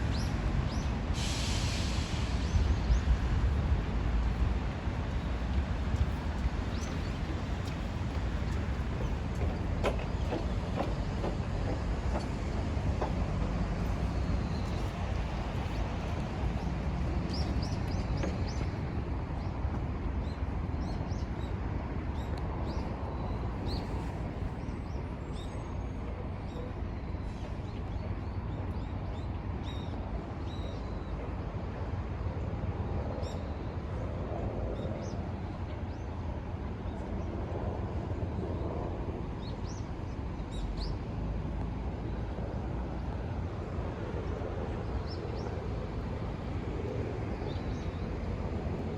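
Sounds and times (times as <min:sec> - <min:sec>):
low park ambience rumble: 0:00.0 - 0:48.9.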